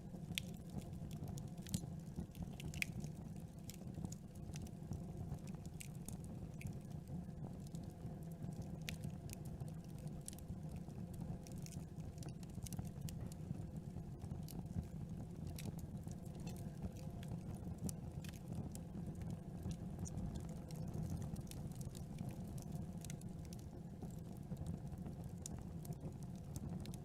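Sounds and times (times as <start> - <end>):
campfire burning: 0.0 - 27.0
fire pops and crackles: 0.1 - 27.0.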